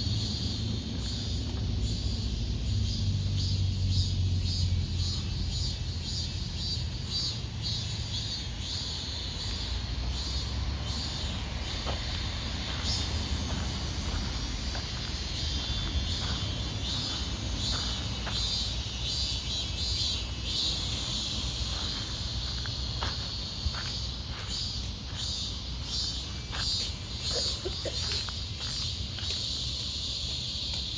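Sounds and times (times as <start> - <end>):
distant road traffic rumble: 0.0 - 30.9
insects chirping and buzzing: 0.0 - 30.9.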